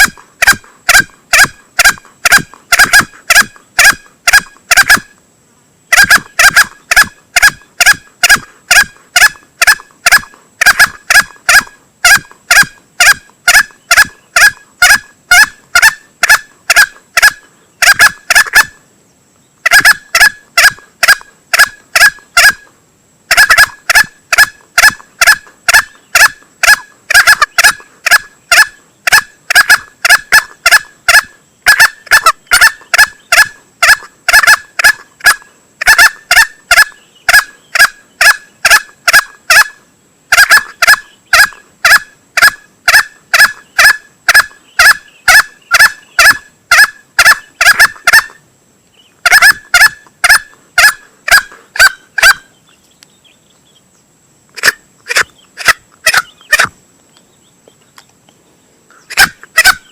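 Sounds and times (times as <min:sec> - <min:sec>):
junglefowl sharp calls: 0:00.0 - 0:05.2, 0:05.9 - 0:18.8, 0:19.6 - 0:48.4, 0:49.2 - 0:52.6, 0:54.5 - 0:56.8, 0:58.9 - 0:59.9.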